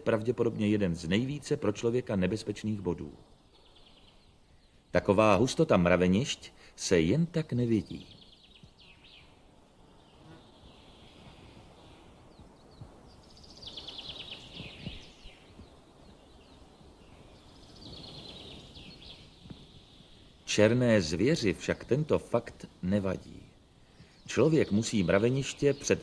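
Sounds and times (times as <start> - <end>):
distant songbirds trilling: 0.0 - 26.0.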